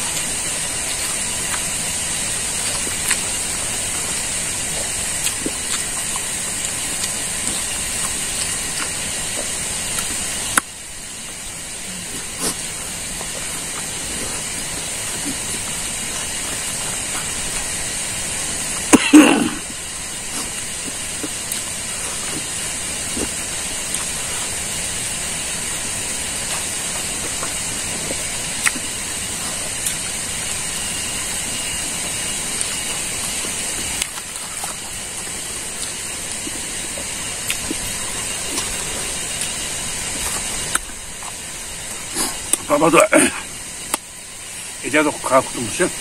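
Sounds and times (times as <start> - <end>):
person eating and chewing: 0.0 - 44.8
steady hiss: 0.0 - 46.0.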